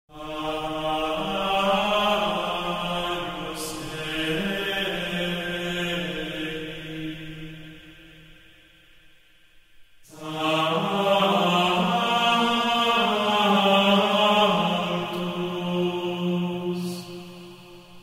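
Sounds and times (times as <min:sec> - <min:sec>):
chant-like vocal notes: 0:00.1 - 0:08.7, 0:10.0 - 0:18.0.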